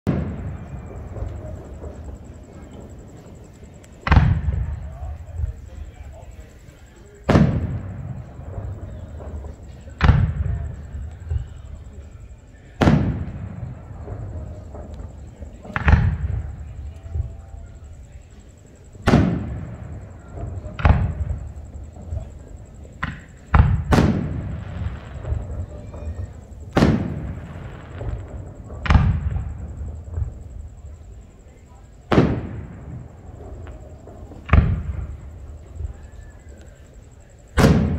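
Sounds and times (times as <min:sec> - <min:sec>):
firework shells bursting: 0:00.1 - 0:31.5, 0:32.1 - 0:37.9.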